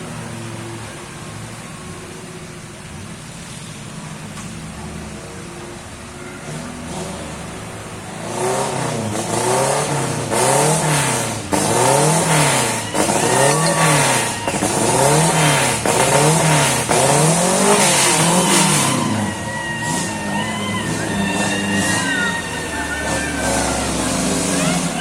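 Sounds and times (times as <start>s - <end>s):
vehicle engine revving: 4.6s - 25.0s.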